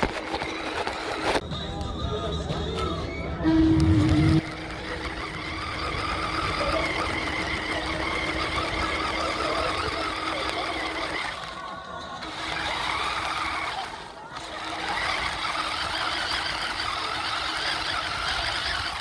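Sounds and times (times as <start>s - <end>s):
toy truck motor whirring: 0.0s - 1.5s, 2.1s - 19.0s.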